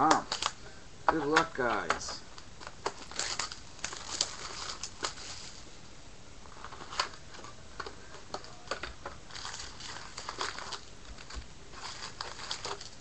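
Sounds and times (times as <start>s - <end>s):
wrapper crinkling: 0.0s - 0.6s, 1.2s - 5.7s, 6.4s - 13.0s.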